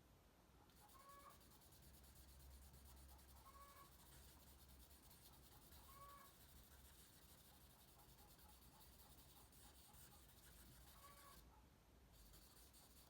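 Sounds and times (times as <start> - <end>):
charcoal scratching on paper: 0.7 - 11.5, 12.2 - 13.0.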